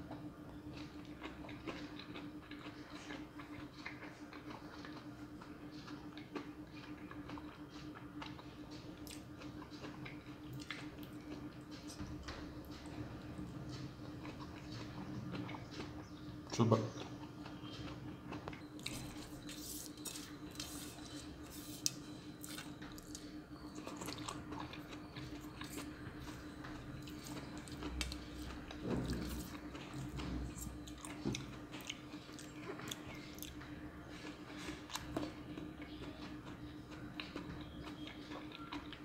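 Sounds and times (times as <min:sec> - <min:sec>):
close-up chewing: 0:00.0 - 0:39.0
steady low hum: 0:00.0 - 0:39.0.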